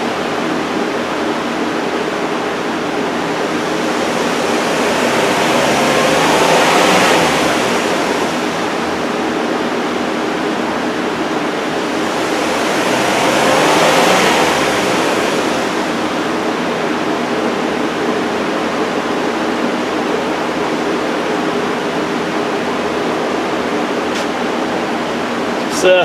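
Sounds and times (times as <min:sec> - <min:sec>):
large fans rushing: 0:00.0 - 0:26.0.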